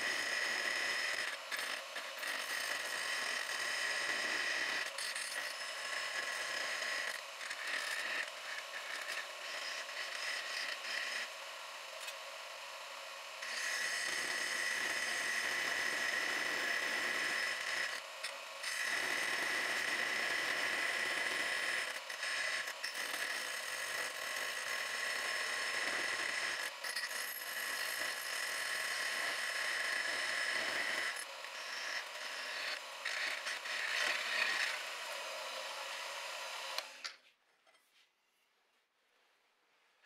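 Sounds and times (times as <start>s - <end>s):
bandsaw cutting metal: 0.0s - 37.2s.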